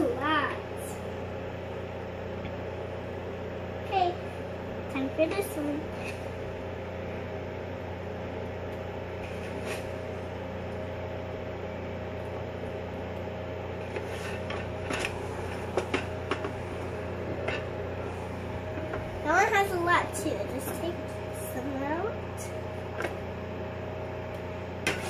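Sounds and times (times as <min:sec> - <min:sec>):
kitchen appliance fan humming: 0:00.0 - 0:25.0.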